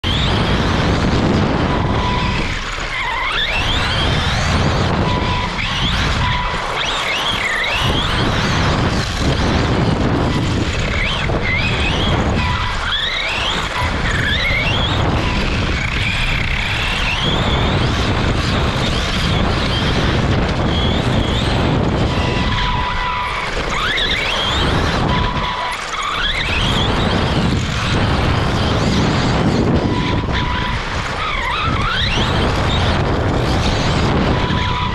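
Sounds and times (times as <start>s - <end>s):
chassis and tyres rattling: 0.0s - 34.9s
electric motor whine: 0.0s - 34.9s.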